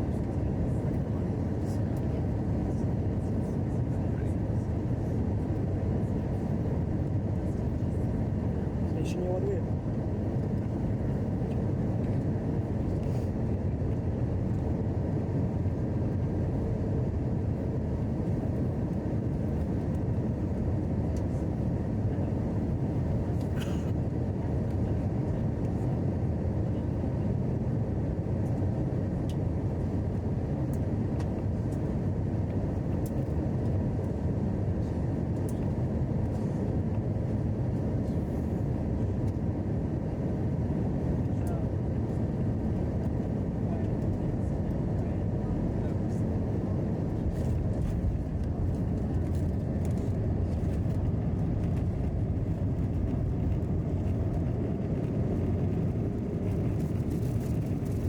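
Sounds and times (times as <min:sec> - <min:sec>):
airliner cabin engine and airflow noise: 0:00.0 - 0:58.0.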